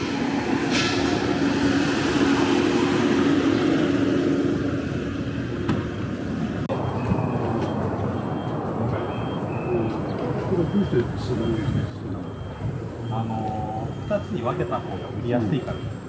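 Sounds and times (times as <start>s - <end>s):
outdoor street noise: 0.0s - 16.0s.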